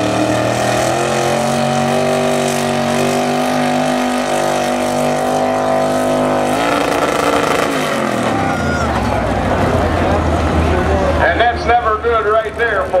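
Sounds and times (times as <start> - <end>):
pickup engine at full throttle: 0.0 - 13.0.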